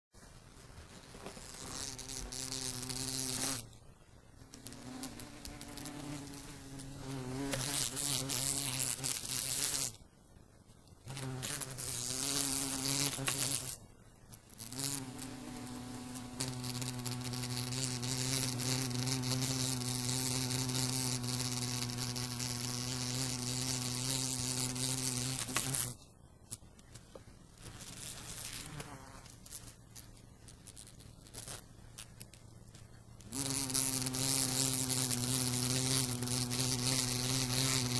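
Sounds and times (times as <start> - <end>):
wasp buzzing against window: 0.9 - 10.0, 11.0 - 26.6, 27.6 - 32.4, 33.2 - 37.9.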